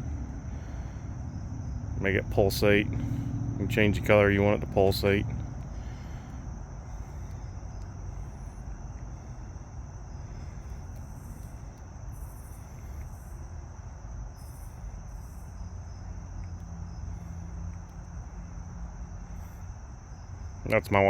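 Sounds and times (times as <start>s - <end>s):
low rumble: 0.0s - 20.6s
crickets trilling: 0.0s - 21.0s.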